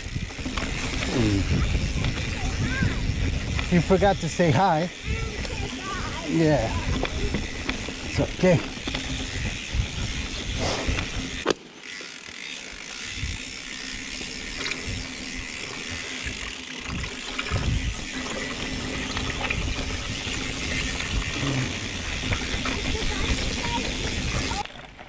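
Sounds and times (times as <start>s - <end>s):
bike tyre and drivetrain noise: 0.0s - 25.0s.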